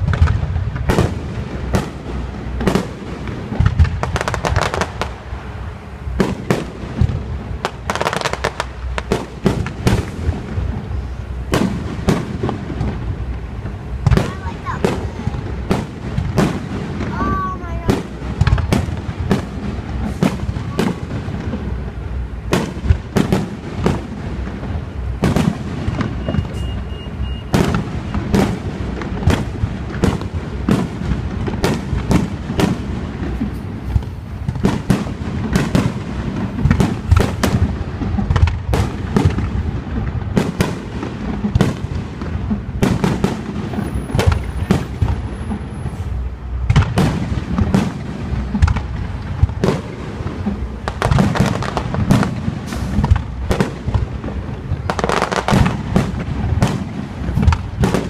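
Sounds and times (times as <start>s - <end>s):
fireworks bursts and bangs: 0.0s - 58.0s
low rumble of explosions: 0.0s - 58.0s.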